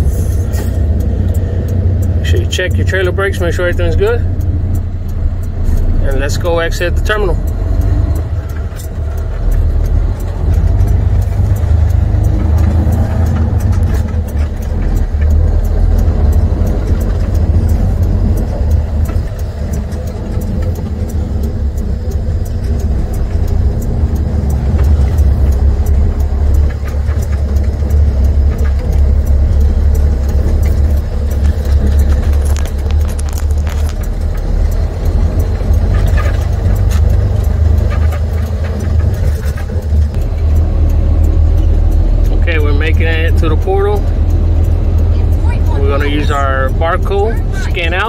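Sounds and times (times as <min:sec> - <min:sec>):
diesel truck engine rumbling: 0:00.0 - 0:48.0
light clicks and rattles: 0:00.2 - 0:48.0.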